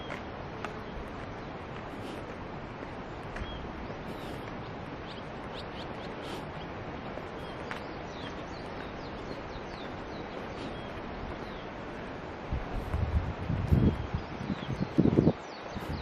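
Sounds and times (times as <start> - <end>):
birds chirping: 0.0 - 13.0, 13.6 - 16.0
steady outdoor hiss: 0.0 - 16.0.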